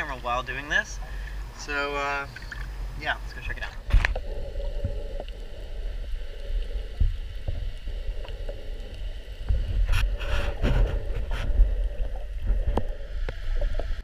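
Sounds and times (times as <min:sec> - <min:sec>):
muffled underwater water rumble: 0:00.0 - 0:14.0
noisy water rushes: 0:00.0 - 0:14.0.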